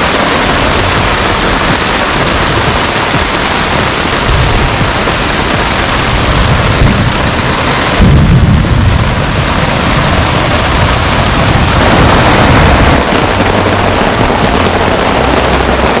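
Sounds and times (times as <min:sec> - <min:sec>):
steady rain: 0:00.0 - 0:16.0
thunder rumble: 0:00.0 - 0:16.0.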